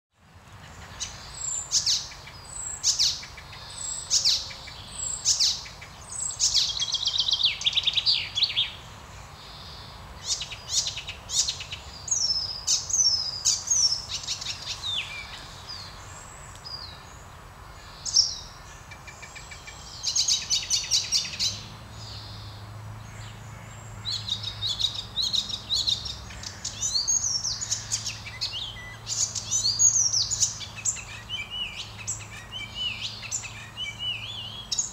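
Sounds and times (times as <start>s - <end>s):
warbler singing: 0.7s - 34.9s.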